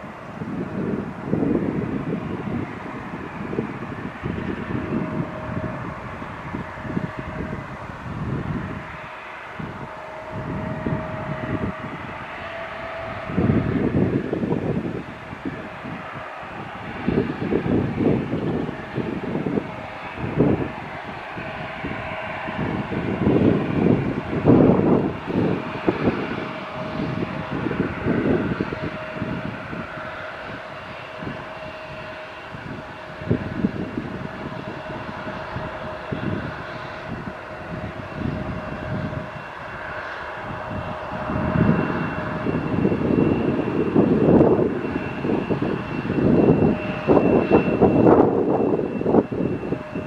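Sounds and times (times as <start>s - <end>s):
airliner engines whining: 0.0s - 50.0s
wind rumbling on microphone: 0.0s - 50.0s.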